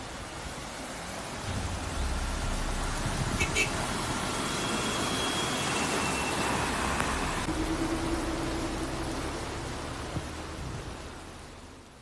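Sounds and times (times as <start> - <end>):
rush of churned water: 0.0 - 12.0
vehicle running noise: 1.0 - 12.0.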